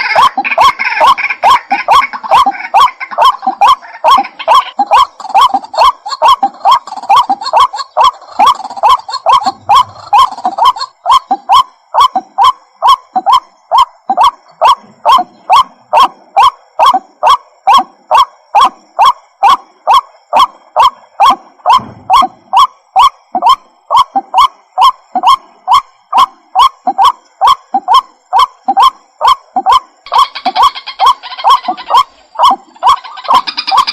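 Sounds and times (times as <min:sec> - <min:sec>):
waterhen calling: 0:00.0 - 0:33.9.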